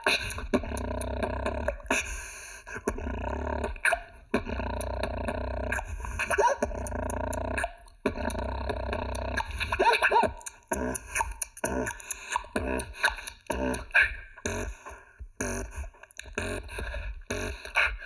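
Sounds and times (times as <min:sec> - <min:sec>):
beatboxing mouth percussion: 0:00.0 - 0:18.0
wavering vocal tones: 0:00.0 - 0:18.0.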